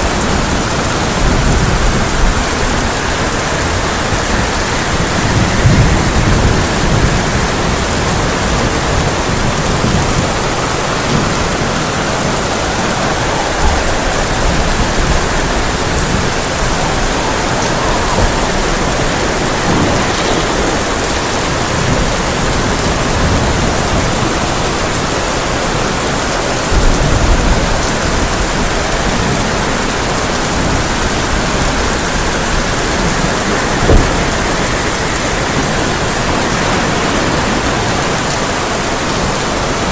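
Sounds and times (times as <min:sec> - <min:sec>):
sharp thunder clap: 0:00.0 - 0:24.7, 0:26.7 - 0:38.3
heavy rain on a tin roof: 0:00.0 - 0:39.9
thunder rumbling: 0:00.0 - 0:39.9.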